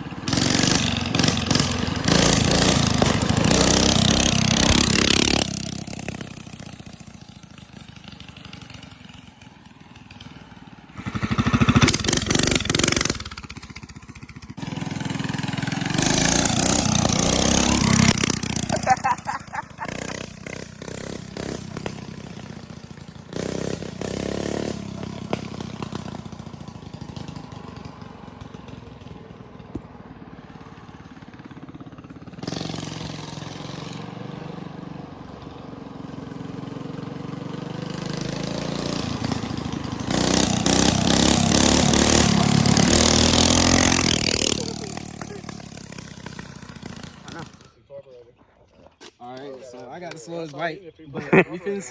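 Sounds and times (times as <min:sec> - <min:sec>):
minibike engine running: 0:00.0 - 0:47.8.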